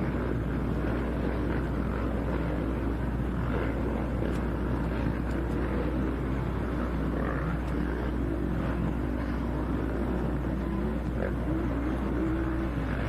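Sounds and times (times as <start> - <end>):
constant low hum: 0.0 - 13.0
low rumbling background noise: 0.0 - 13.0.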